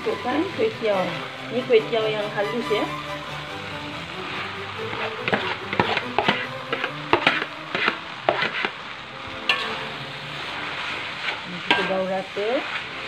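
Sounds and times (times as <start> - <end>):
wok sizzling: 0.0 - 13.0.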